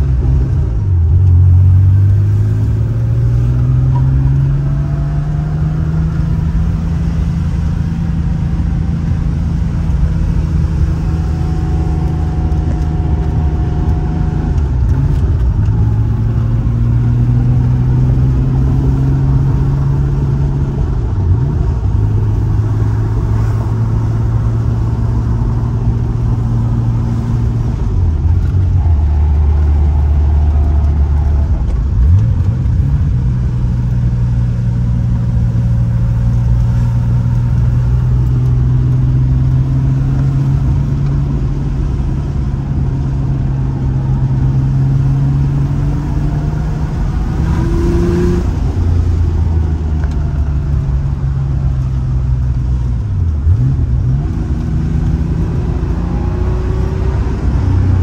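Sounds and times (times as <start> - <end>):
car engine running under load: 0.0 - 58.0.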